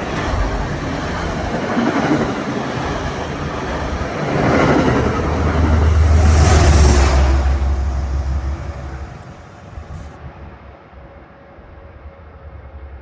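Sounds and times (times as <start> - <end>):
train rushing past: 0.0 - 13.0.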